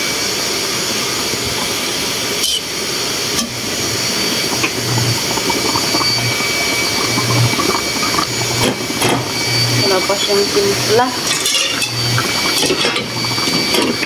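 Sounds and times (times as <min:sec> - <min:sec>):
soup simmering hiss: 0:00.5 - 0:14.0.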